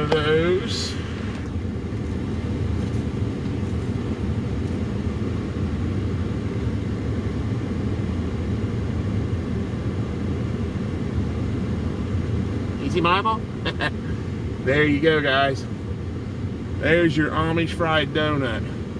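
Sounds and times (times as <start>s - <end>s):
vehicle low rumble: 0.0s - 18.9s.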